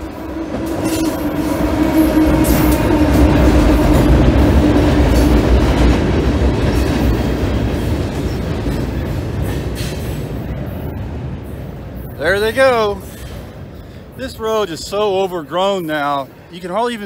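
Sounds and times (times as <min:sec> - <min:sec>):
freight train rumble and wheel clatter: 0:00.0 - 0:17.0
locomotive engine hum: 0:00.0 - 0:17.0.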